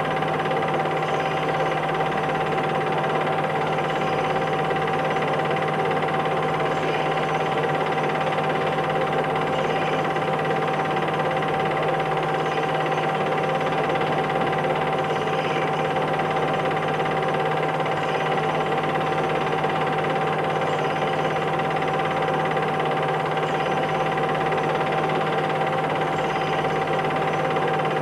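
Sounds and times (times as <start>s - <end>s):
constant whine: 0.0s - 28.0s
machine hum and hiss: 0.0s - 28.0s.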